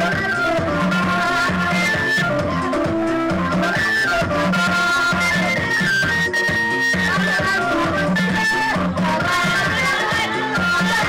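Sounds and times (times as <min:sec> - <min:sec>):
dance music with drums: 0:00.0 - 0:11.0.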